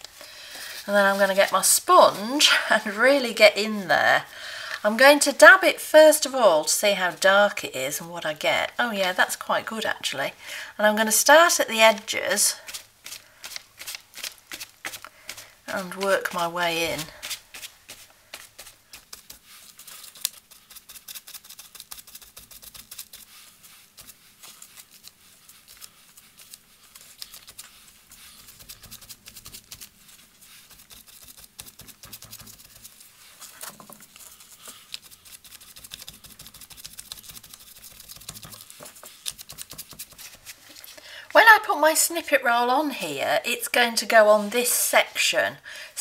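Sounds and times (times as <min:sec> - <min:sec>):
sponge dabbing on paper: 0:00.0 - 0:07.6, 0:11.1 - 0:42.0.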